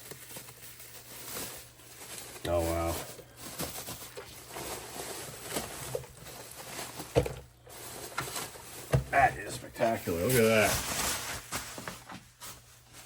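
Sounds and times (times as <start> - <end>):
packaging rustling: 0.0 - 13.0.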